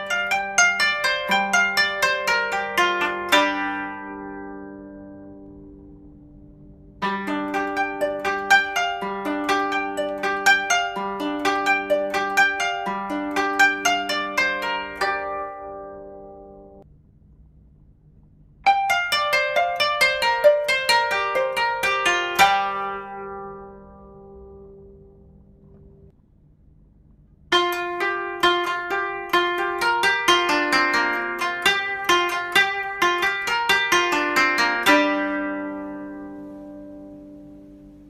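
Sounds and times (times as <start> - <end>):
plucked-string music: 0.0 - 16.8, 18.6 - 26.1, 27.5 - 38.0.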